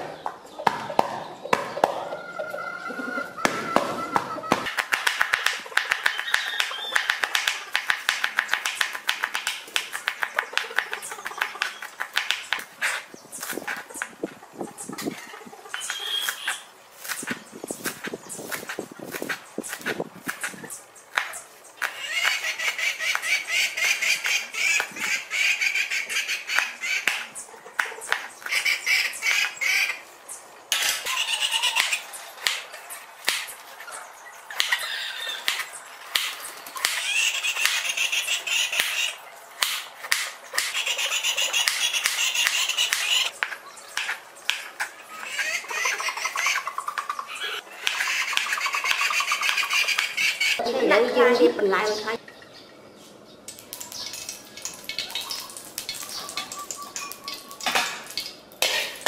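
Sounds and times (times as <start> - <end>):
bird calls: 0.0 - 58.8.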